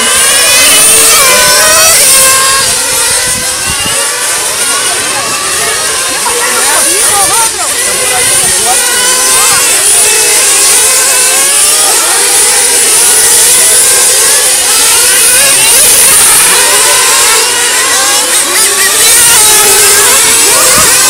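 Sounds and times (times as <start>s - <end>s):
rc car engines revving: 0.0s - 21.0s.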